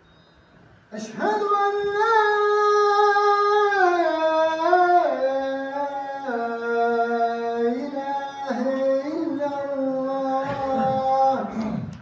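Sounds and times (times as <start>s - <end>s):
man chanting into microphone: 0.9s - 12.0s.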